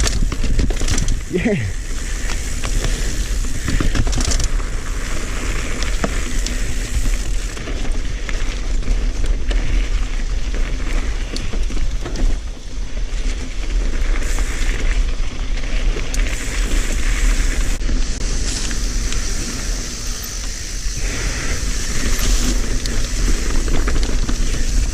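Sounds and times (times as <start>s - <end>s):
bike clicks and rattles: 0.0s - 24.9s
bike tyres on dirt: 0.0s - 24.9s.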